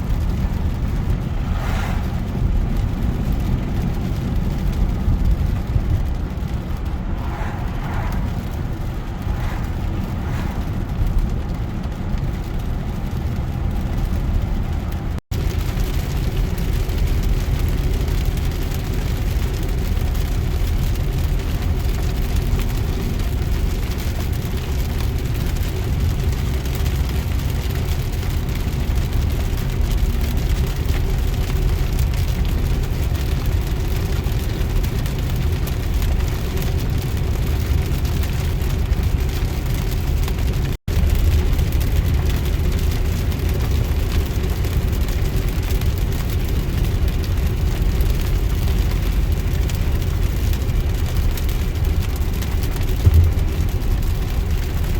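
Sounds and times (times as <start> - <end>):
car cabin road rumble: 0.0 - 54.9
rain and wind on windshield: 0.0 - 54.9.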